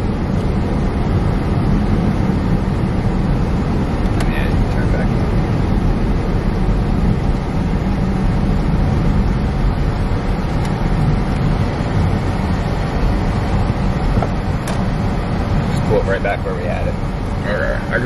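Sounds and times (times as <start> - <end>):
car cabin road rumble: 0.0 - 18.0.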